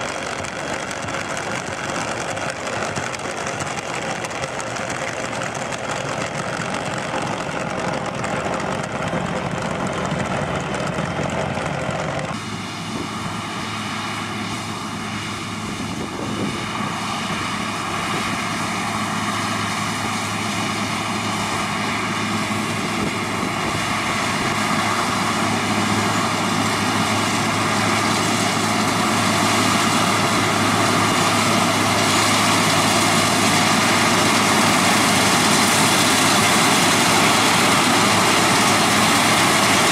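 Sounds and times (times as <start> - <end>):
combine harvester droning: 0.0 - 39.9
tractor running rotary ditcher: 0.0 - 39.9.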